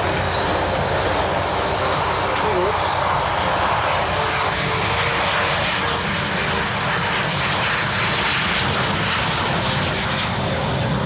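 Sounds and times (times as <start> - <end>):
jet engines at takeoff power: 0.0 - 11.0.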